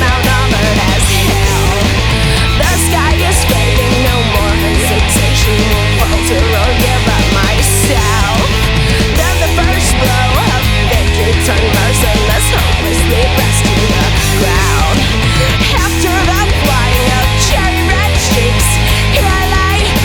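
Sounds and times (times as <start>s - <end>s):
instrumental rock music: 0.0s - 20.0s.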